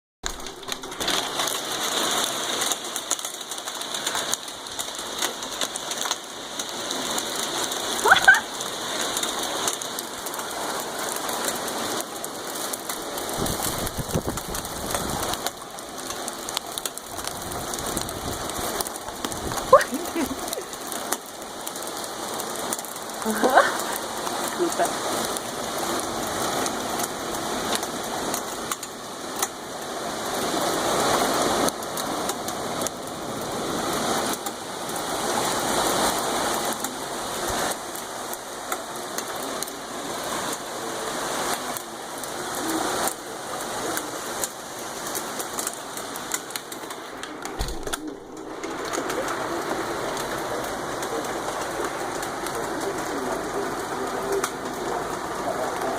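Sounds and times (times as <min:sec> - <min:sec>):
hail clattering on hard surfaces: 0:00.2 - 0:55.9
heavy rain hissing: 0:00.2 - 0:55.9.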